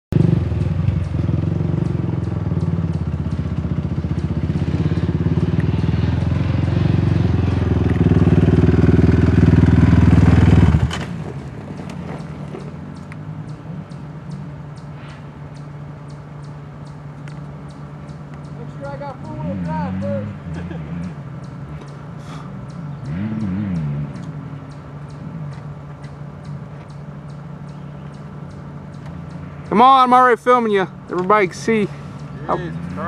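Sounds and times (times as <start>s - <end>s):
atv engine running hard: 0.1s - 33.0s
quieter atv engine running: 0.1s - 33.0s.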